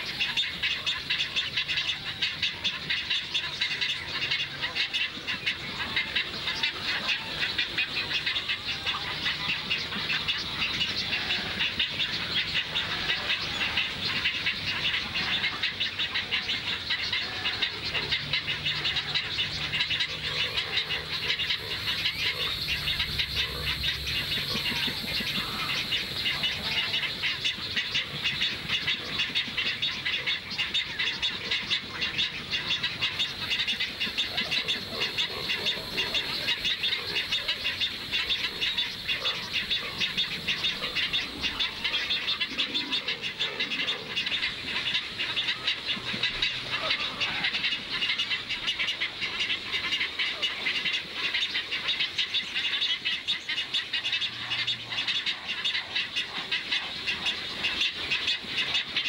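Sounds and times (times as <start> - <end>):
chorus of high-pitched chirps: 0.0 - 59.0.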